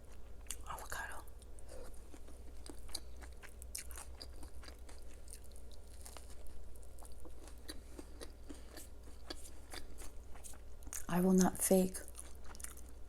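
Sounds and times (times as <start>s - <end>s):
crunchy chewing of food: 0.0s - 11.1s, 12.0s - 13.0s.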